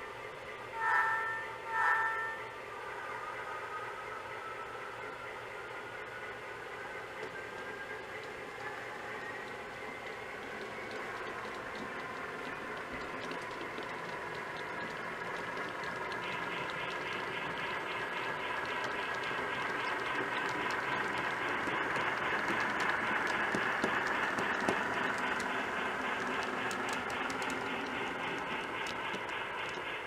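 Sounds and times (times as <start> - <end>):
model train wheels clicking on track: 4.9 - 30.0.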